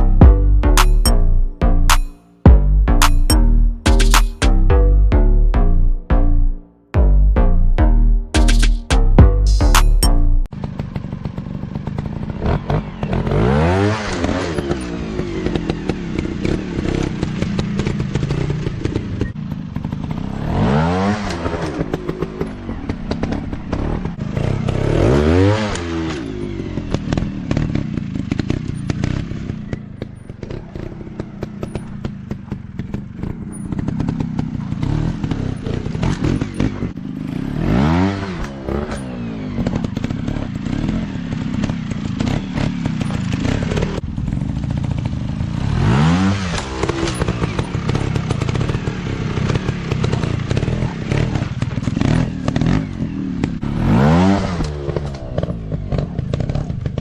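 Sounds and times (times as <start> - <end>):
dirt bike engines revving: 10.6 - 57.0.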